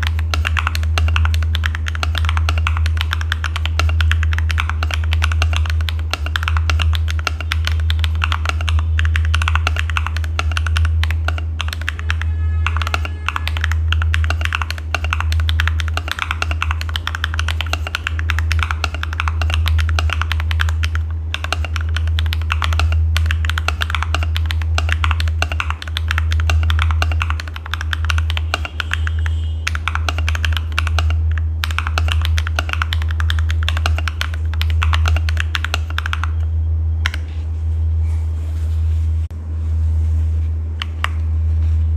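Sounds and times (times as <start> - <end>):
mechanical keyboard typing: 0.0 - 37.3.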